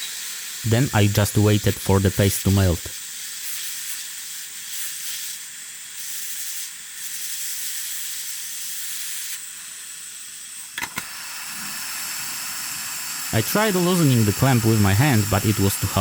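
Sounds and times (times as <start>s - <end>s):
hot air gun hissing: 0.0s - 16.0s.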